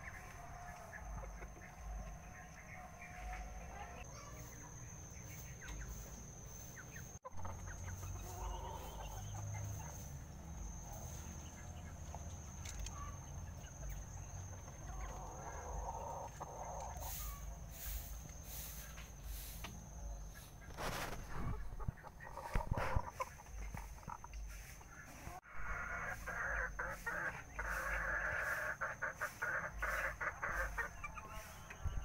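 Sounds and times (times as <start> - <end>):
chickens clucking faintly: 0.0 - 32.0.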